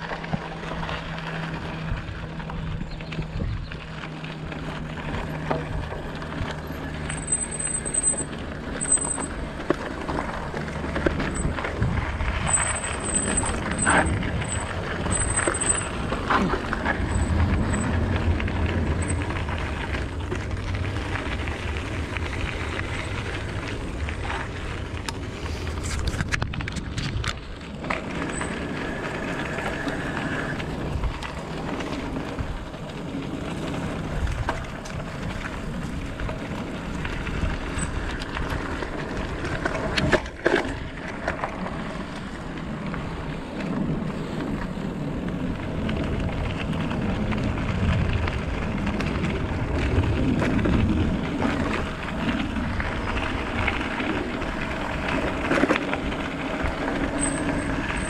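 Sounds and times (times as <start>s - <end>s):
bicycle tyre noise: 0.0s - 58.0s
wind noise: 0.0s - 58.0s.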